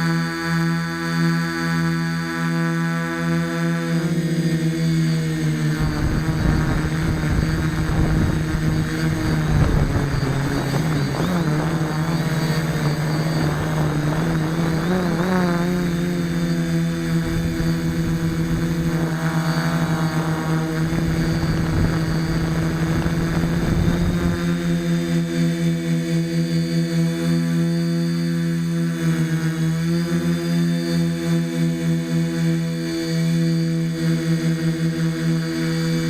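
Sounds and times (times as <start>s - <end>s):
quadcopter motors humming: 0.0s - 36.0s.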